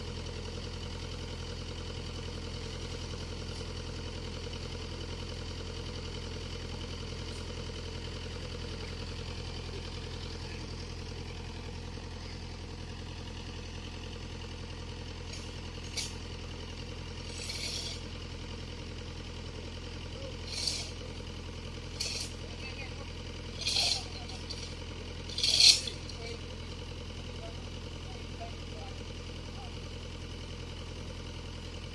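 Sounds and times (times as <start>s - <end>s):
excavator engine idling: 0.0s - 31.9s.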